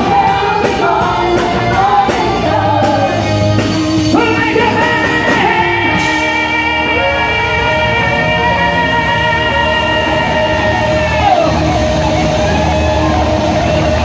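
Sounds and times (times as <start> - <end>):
man singing into microphone: 0.0 - 11.8
live rock band playing: 0.0 - 14.0.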